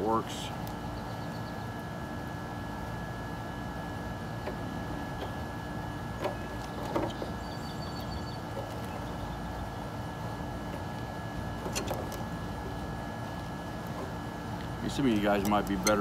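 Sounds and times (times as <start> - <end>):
mechanical drone with whining tones: 0.0 - 16.0.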